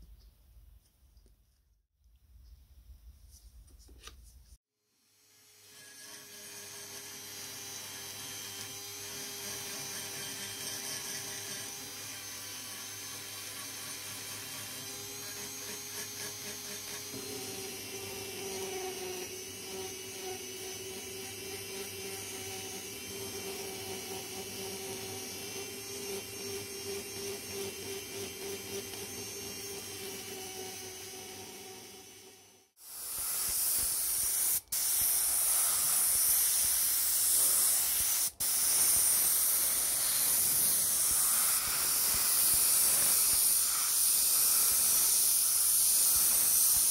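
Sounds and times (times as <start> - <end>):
rotary tool grinding metal: 5.6 - 34.6, 35.2 - 46.9.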